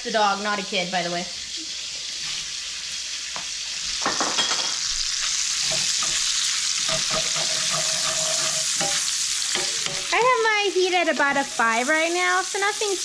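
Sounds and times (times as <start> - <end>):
sausage sizzling in frying pan: 0.0 - 13.0.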